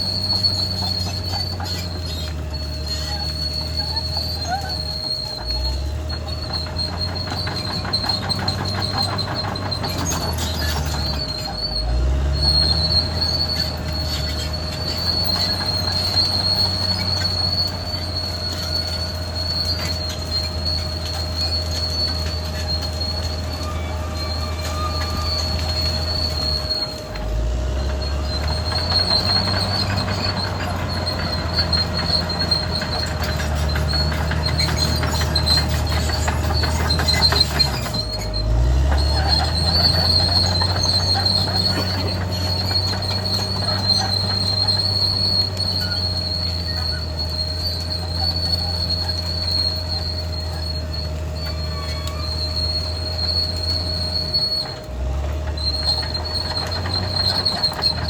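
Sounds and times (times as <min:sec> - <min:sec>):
bulldozer diesel engine: 0:00.0 - 0:58.0
steel tracks squealing: 0:00.0 - 0:58.0.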